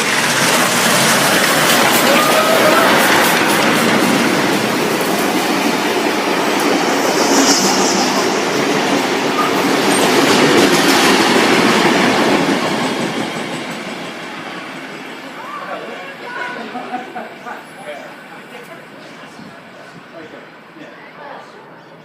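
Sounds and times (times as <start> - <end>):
train wheels on rails: 0.0 - 20.2.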